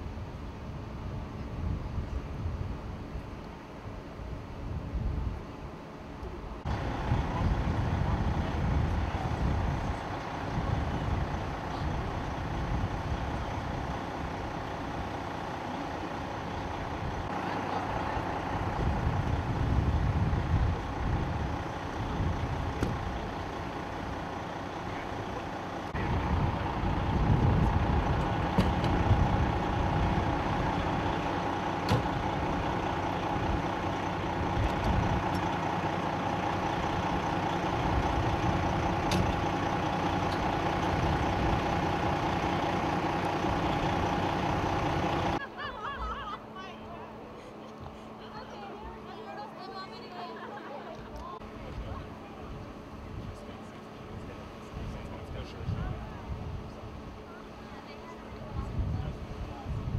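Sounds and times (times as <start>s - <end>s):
vehicle engines idling: 0.0s - 59.9s.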